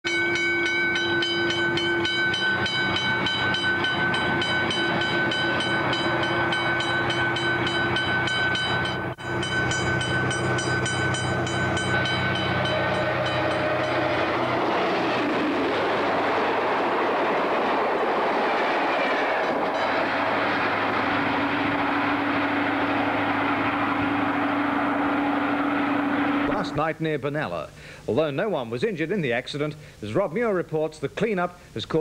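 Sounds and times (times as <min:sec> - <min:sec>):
high steady whine: 0:00.1 - 0:18.9, 0:19.5 - 0:28.4
locomotive engine drone: 0:00.1 - 0:27.0.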